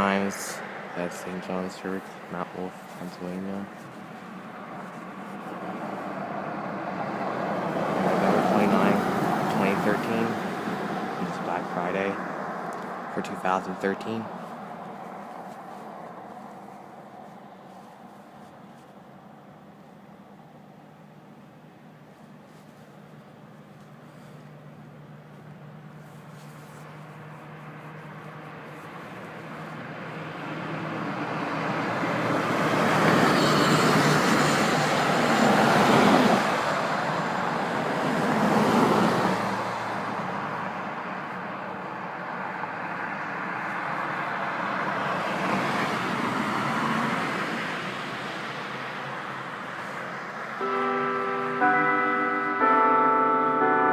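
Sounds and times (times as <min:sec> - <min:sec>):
road traffic passing: 0:00.0 - 0:53.9.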